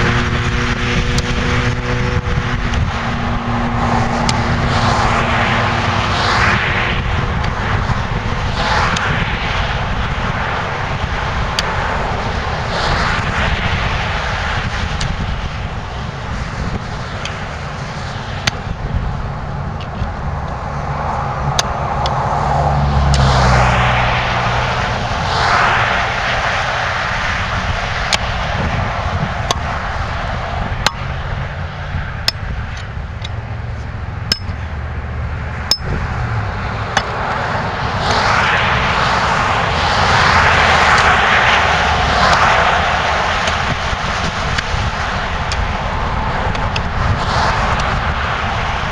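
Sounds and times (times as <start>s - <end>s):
vehicles passing on road: 0.0s - 48.9s.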